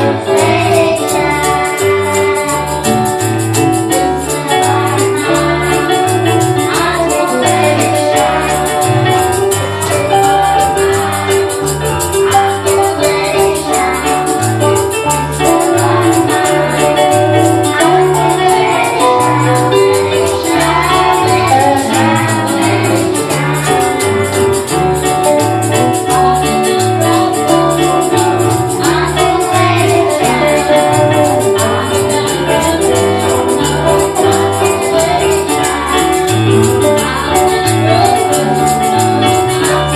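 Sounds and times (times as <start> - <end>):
bass line: 0.0 - 39.9
gospel band playing: 0.0 - 39.9
person singing: 0.0 - 39.9
tambourine shaking: 0.0 - 39.9.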